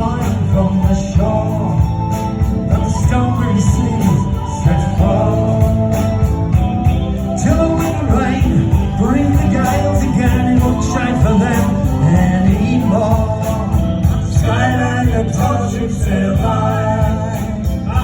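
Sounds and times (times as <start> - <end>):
folk-rock band playing live: 0.0 - 18.0
wavering melody line: 0.0 - 18.0.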